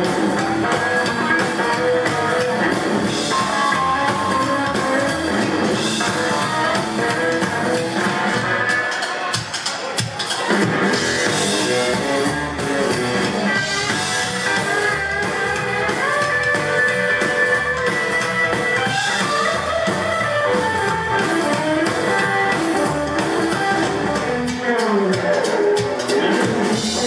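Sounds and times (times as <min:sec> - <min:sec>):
upright double bass: 0:00.0 - 0:08.6, 0:10.8 - 0:24.5, 0:26.2 - 0:27.0
drum kit: 0:00.0 - 0:27.0
electric guitar: 0:00.0 - 0:27.0.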